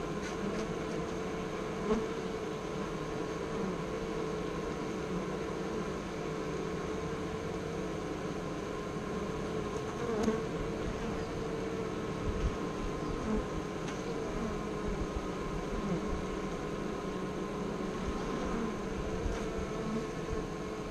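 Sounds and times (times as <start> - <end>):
honeybees buzzing: 0.0 - 20.9.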